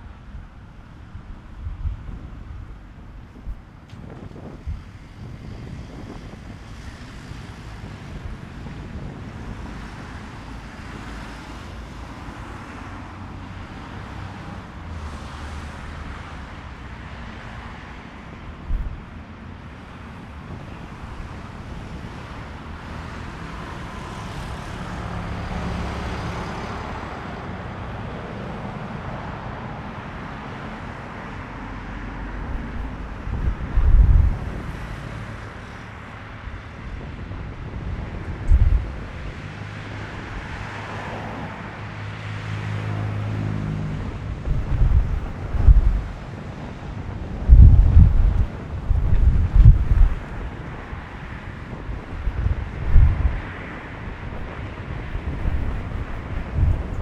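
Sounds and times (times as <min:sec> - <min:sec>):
wind buffeting microphone: 0:00.0 - 0:27.2, 0:32.2 - 0:42.1, 0:42.9 - 0:57.0.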